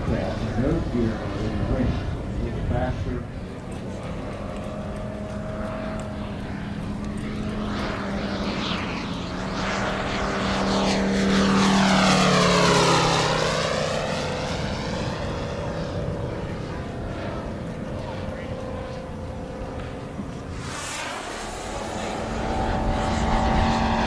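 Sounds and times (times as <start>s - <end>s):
model plane engine flying past: 0.0s - 24.0s.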